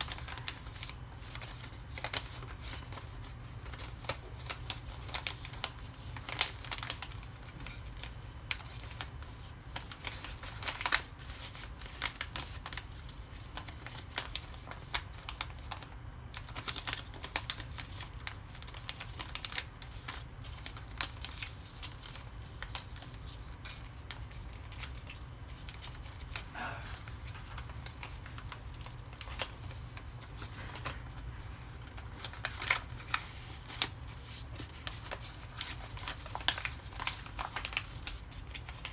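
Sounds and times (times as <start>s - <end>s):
paper being folded and creased: 0.0s - 38.9s.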